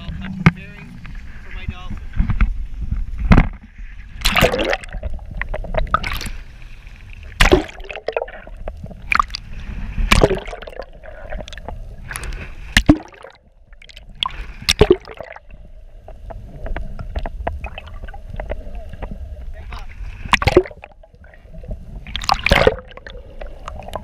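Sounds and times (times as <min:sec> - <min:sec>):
seawater sloshing and gurgling: 0:03.7 - 0:24.0.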